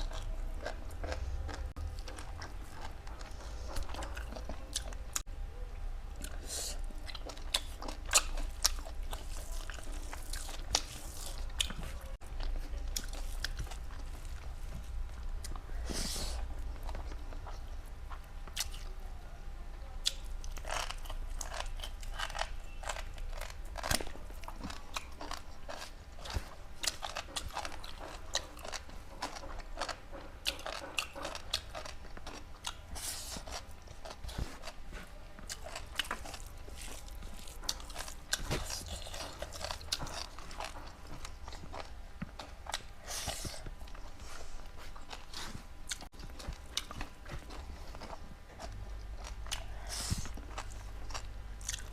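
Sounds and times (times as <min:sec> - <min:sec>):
wet chewing: 0:00.0 - 0:05.3, 0:06.2 - 0:19.0, 0:20.0 - 0:51.9.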